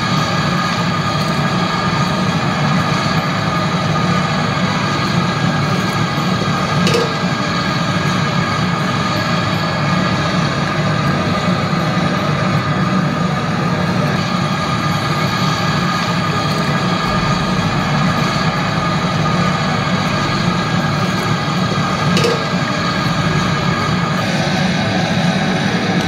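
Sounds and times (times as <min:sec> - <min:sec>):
mechanical drone: 0:00.0 - 0:26.0.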